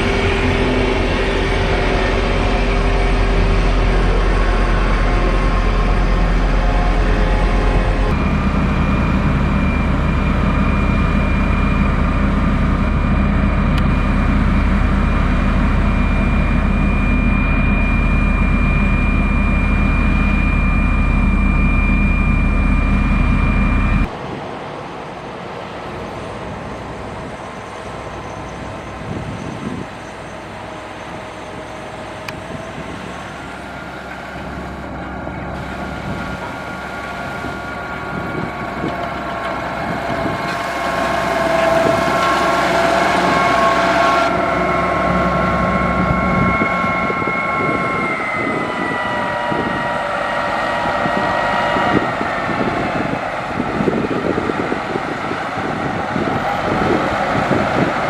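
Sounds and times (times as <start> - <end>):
heavy diesel engine rumbling: 0.0 - 24.2, 25.8 - 58.0.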